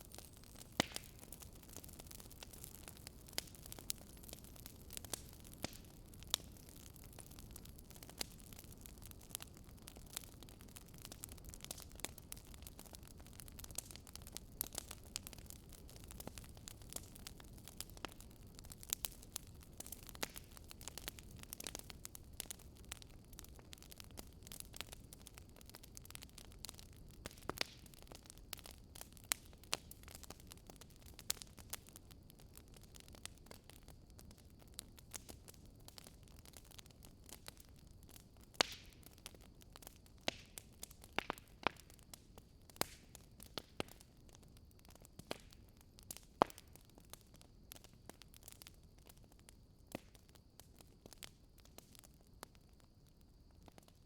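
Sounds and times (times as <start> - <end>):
fire crackling and popping: 0.0 - 54.0
low rumble of burning: 0.0 - 54.0.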